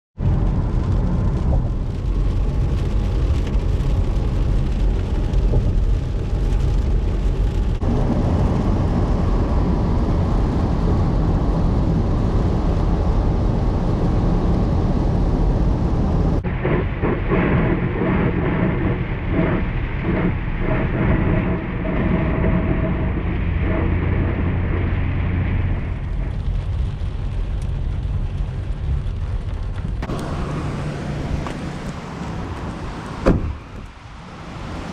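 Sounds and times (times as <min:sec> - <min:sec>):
strong wind buffeting microphone: 0:00.2 - 0:34.9.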